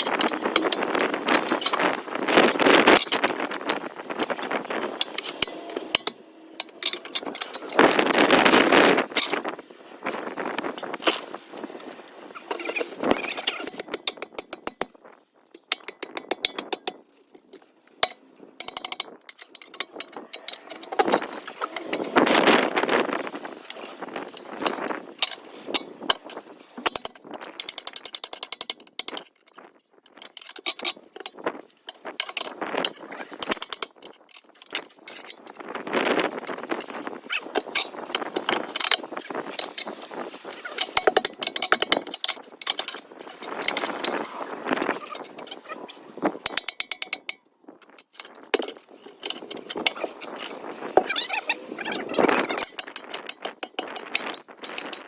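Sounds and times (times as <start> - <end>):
ratcheting clicks from tools: 0.0 - 55.0.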